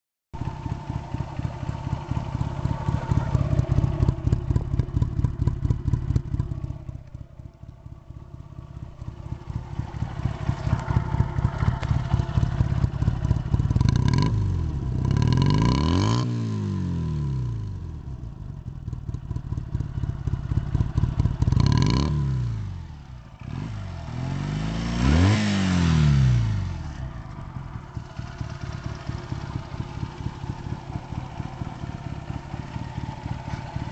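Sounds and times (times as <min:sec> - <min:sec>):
motorcycle engine idling and revving: 0:00.4 - 0:33.9.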